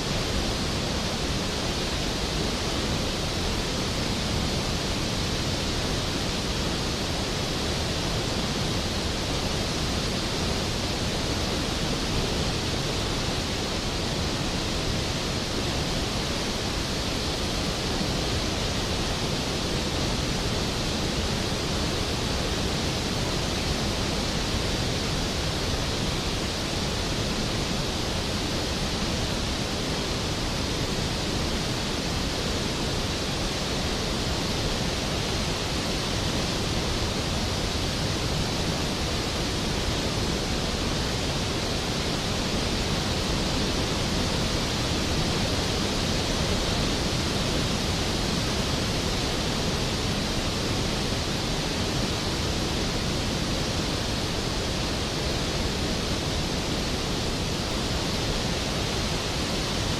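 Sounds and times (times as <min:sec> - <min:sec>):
waterfall crashing: 0:00.1 - 0:59.9.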